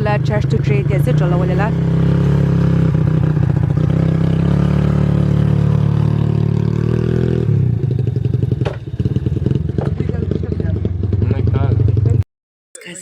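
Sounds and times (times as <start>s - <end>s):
small vehicle engine running: 0.0s - 12.2s.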